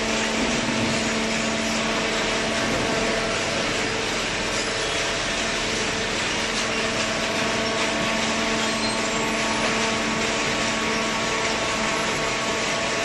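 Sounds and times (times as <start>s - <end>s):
baler machinery hum: 0.0s - 13.0s.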